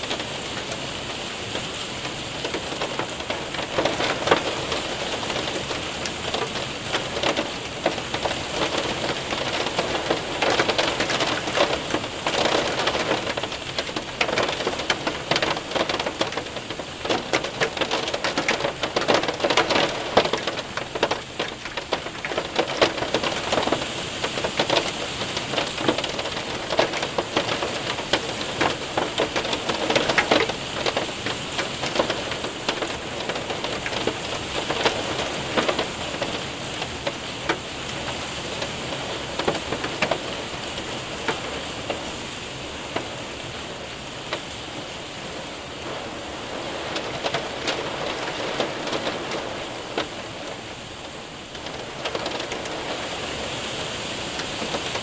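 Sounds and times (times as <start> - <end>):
hailstones ticking on window: 0.0 - 55.0
heavy rain patter: 0.0 - 55.0.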